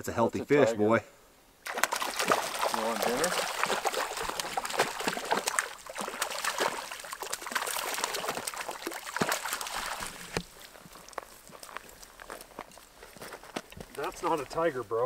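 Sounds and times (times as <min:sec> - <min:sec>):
fish splashing in water: 0:01.6 - 0:14.3.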